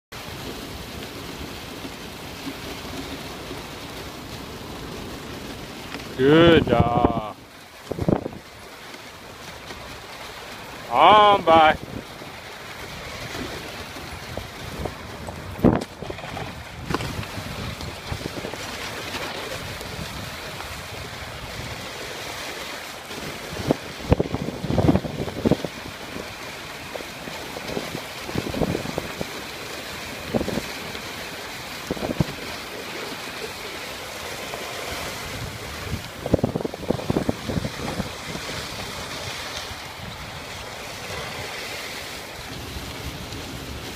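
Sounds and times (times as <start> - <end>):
sled runners rushing on snow: 0.1 - 43.9
wind on microphone: 2.8 - 8.7, 10.7 - 43.9.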